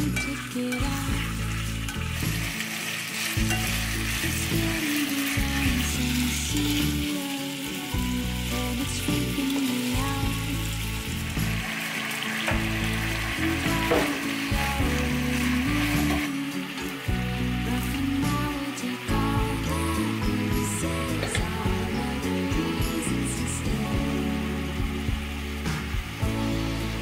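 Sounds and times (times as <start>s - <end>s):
background music: 0.0s - 27.0s
chicken sizzling in oil: 0.0s - 27.0s.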